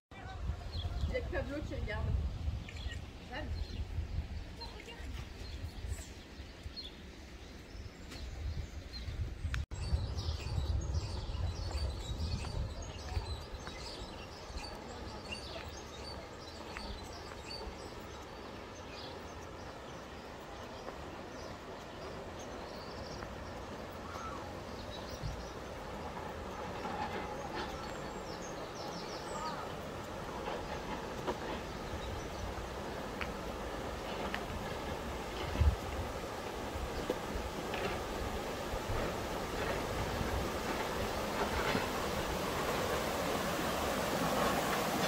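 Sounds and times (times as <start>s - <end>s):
steady outdoor hiss: 0.1s - 45.0s
small songbirds chirping: 2.4s - 45.0s.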